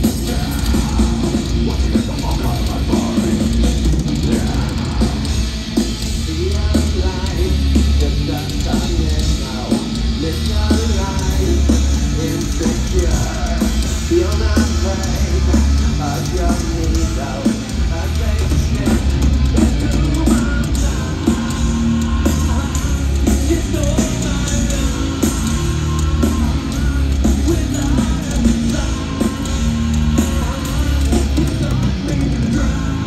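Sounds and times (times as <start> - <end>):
bass and drums: 0.0 - 33.0
heavy distorted guitars: 0.0 - 33.0
singer singing and yelling: 0.0 - 33.0.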